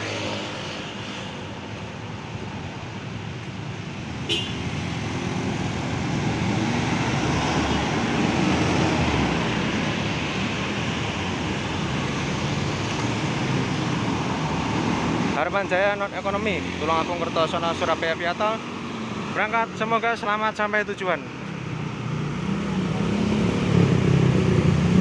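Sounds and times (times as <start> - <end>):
cars and motorcycles passing: 0.0 - 25.0.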